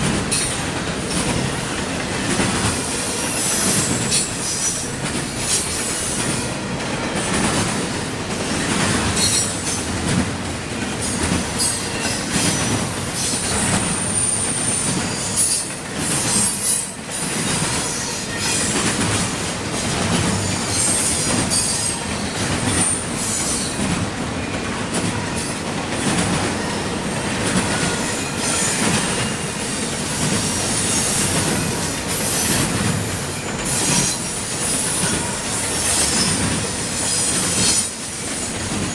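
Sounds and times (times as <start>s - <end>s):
train rumbling: 0.0s - 38.9s
train wheels screeching on rails: 0.0s - 38.9s.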